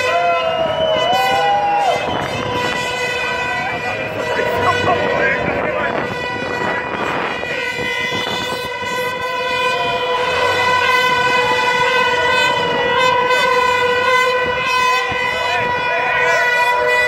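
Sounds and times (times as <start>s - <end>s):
faint crowd voices: 0.0s - 17.0s
horn long steady note: 0.0s - 17.0s.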